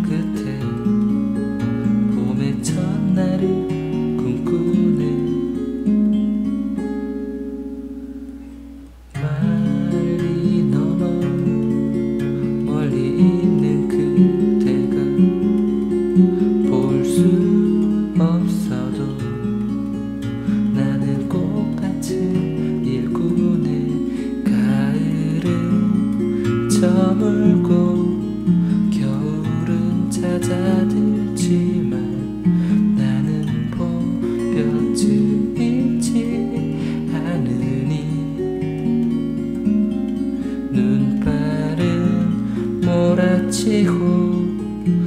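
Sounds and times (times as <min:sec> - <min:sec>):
fingerstyle acoustic guitar: 0:00.0 - 0:45.0.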